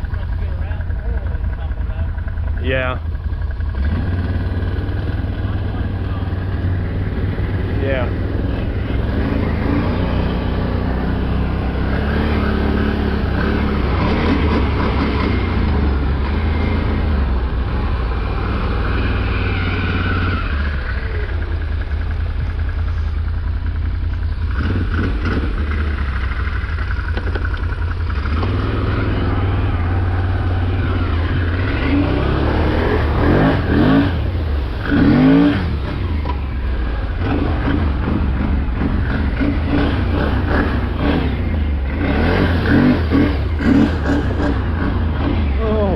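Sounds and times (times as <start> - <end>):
vehicle engine running and revving: 0.0 - 45.9.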